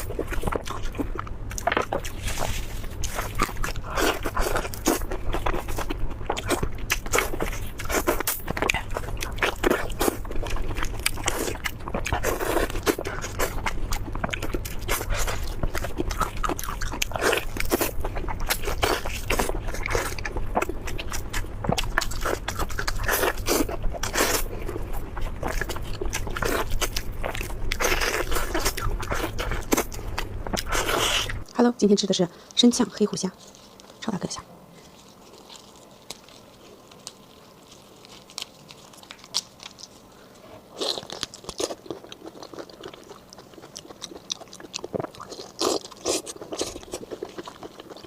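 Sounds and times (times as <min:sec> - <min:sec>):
chewing with crunching: 0:00.0 - 0:31.6, 0:32.5 - 0:48.0
low hum: 0:00.0 - 0:39.0.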